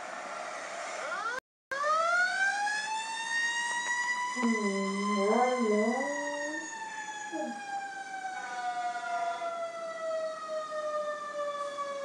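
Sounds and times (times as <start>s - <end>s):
fire truck siren winding down: 0.0s - 12.0s.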